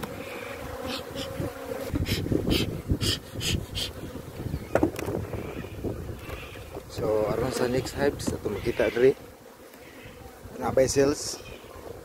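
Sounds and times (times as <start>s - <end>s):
bees humming: 0.0s - 12.0s.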